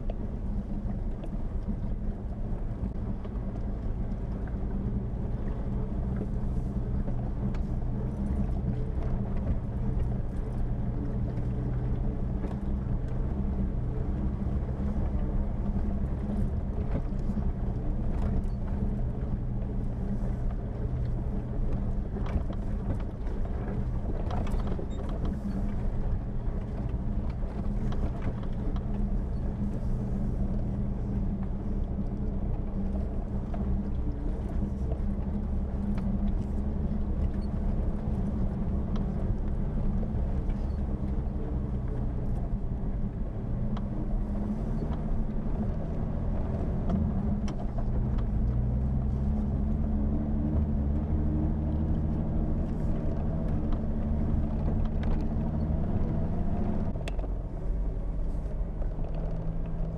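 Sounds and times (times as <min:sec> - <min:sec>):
car engine running at low speed: 0:00.0 - 0:59.9.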